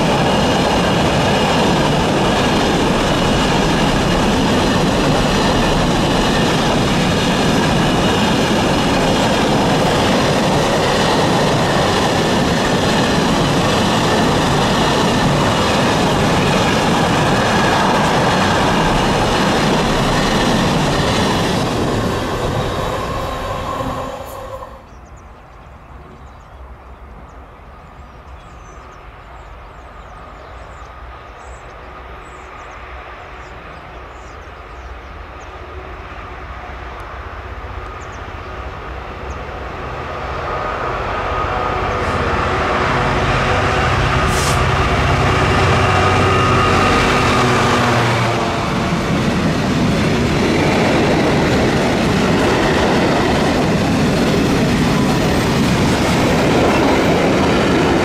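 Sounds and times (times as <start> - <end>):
freight train wagons rumbling: 0.0 - 27.4, 35.8 - 58.0
approaching train rumble: 0.0 - 58.0.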